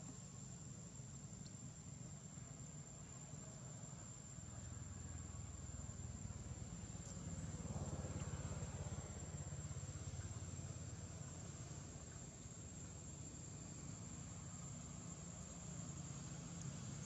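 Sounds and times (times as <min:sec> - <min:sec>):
high-pitched insect whine: 0:00.1 - 0:17.0.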